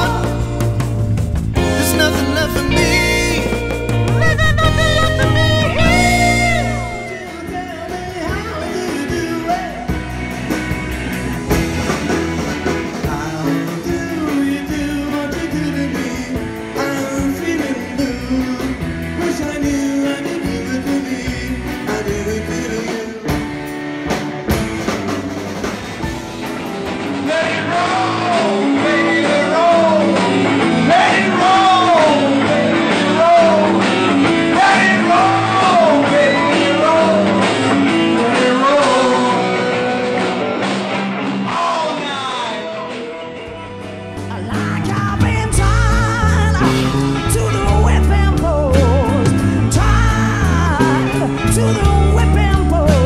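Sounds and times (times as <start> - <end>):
live rock band playing: 0.0 - 53.0
sung melody: 0.0 - 53.0.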